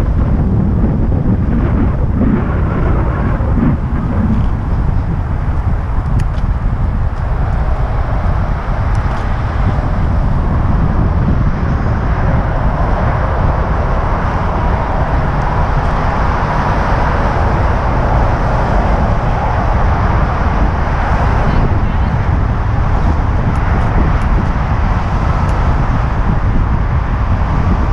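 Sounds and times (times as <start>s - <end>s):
wind rushing over microphone: 0.0s - 27.9s.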